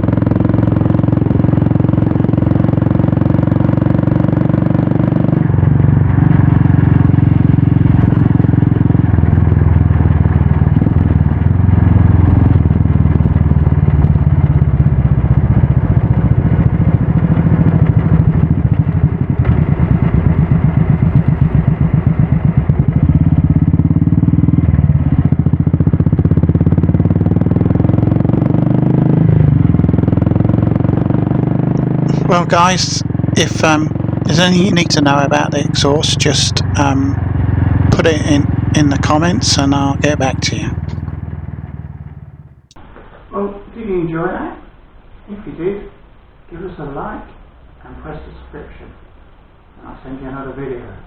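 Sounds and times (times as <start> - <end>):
motorcycle engine running: 0.0 - 42.8.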